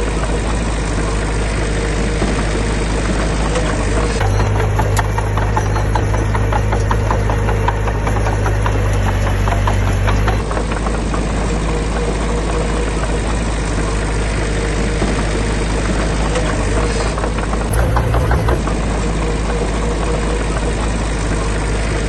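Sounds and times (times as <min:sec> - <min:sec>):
heavy diesel engine running: 0:02.9 - 0:21.5.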